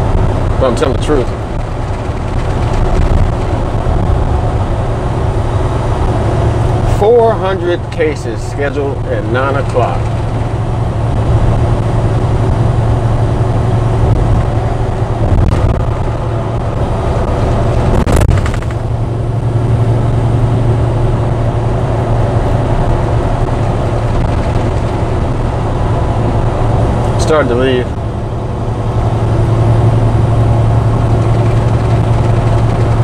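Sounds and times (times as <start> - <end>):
truck engine and road drone: 0.0 - 33.0.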